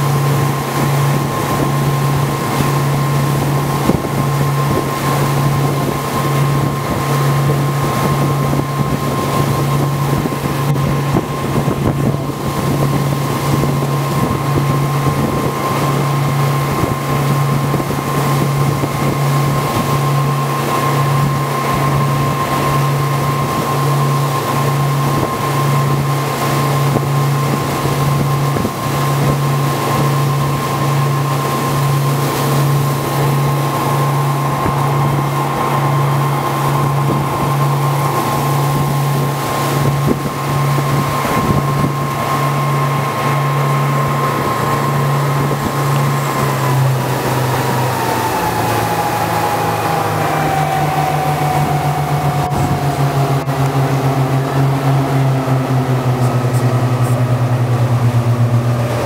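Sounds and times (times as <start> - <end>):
boat engine pulsing hum: 0.0 - 59.0
engine high whine: 0.0 - 59.0.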